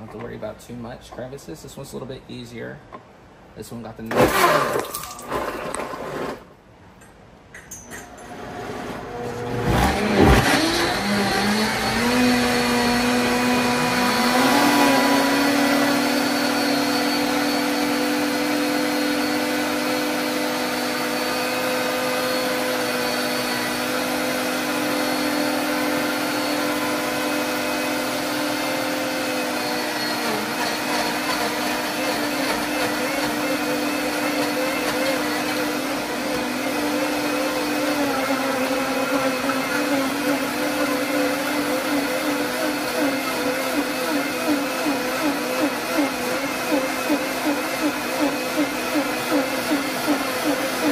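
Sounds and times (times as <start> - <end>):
blender steady hum: 8.8 - 50.9
blender high-pitched whine: 8.9 - 50.9.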